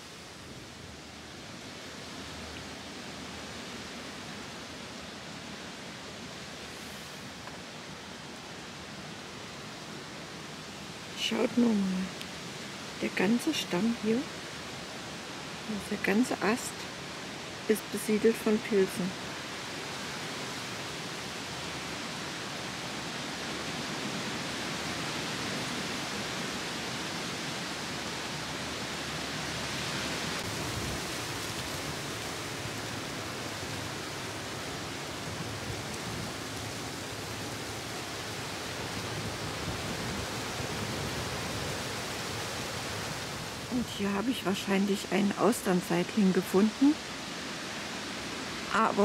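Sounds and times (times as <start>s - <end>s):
strong wind rushing through trees: 0.0s - 49.0s.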